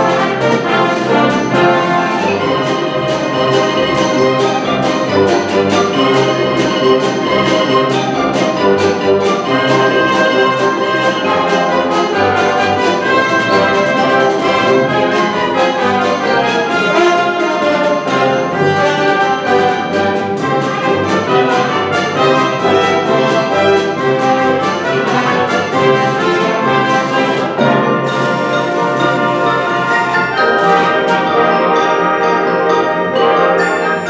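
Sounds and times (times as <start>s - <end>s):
brass: 0.0s - 34.0s
steady rhythmic beat: 0.0s - 34.0s
strings: 0.0s - 34.0s.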